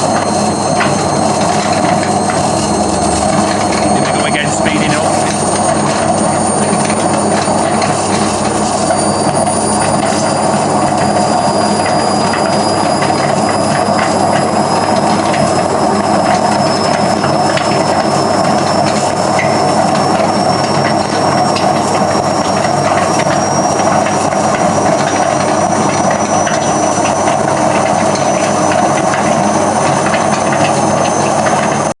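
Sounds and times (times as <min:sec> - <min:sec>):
washing machine spinning with whine: 0:00.0 - 0:32.0.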